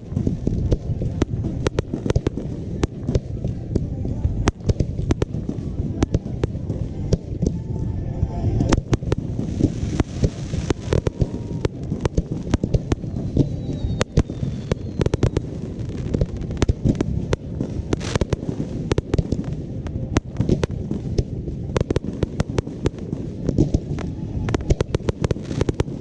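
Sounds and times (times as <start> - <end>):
fireworks bangs: 0.0 - 7.9, 8.6 - 26.0
continuous low rumble: 0.0 - 26.0.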